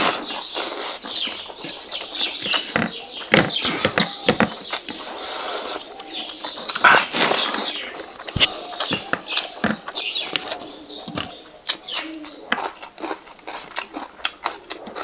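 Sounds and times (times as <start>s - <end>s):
wet smacking and chewing: 0.0s - 15.0s.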